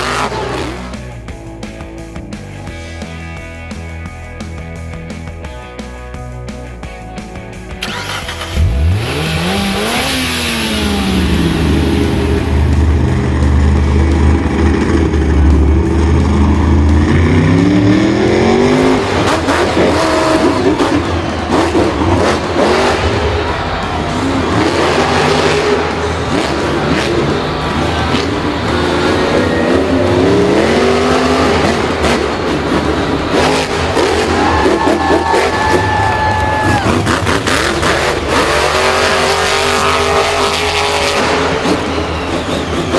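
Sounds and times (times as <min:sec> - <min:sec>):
vehicle engine revving and droning: 0:00.0 - 0:03.2, 0:07.6 - 0:42.9.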